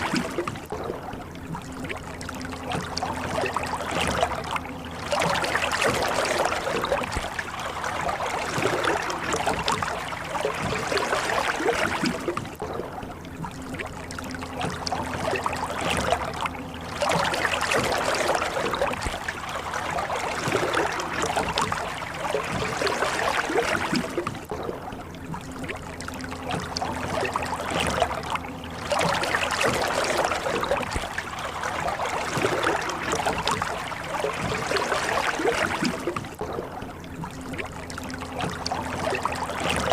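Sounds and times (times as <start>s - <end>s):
oars splashing in water: 0.0s - 39.9s.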